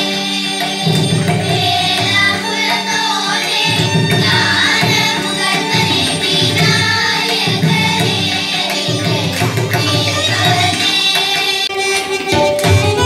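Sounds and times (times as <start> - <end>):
children singing in chorus: 0.0 - 13.0
violin: 0.0 - 13.0.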